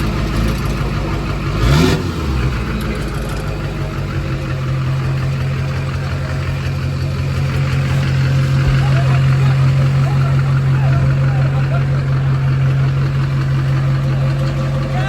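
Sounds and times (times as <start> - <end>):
diesel engine idling: 0.0 - 15.0
engine revving: 0.0 - 15.0.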